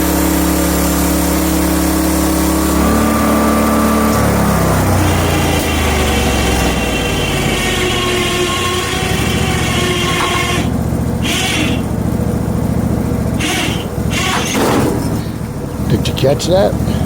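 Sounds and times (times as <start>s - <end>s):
sawmill engine running: 0.0s - 17.0s.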